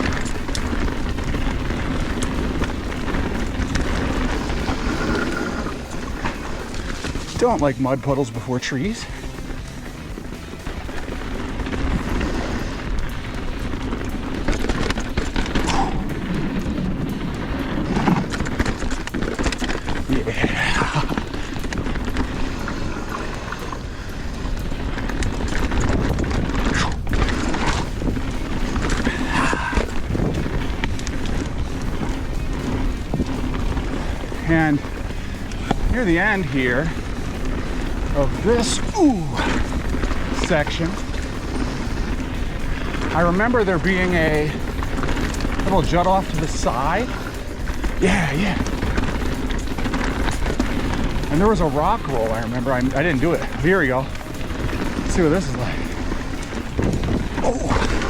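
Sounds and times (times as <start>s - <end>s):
wind noise on microphone: 0.0s - 8.5s, 9.1s - 58.0s
bike clicks and rattles: 0.0s - 58.0s
tyre rumble: 0.0s - 58.0s.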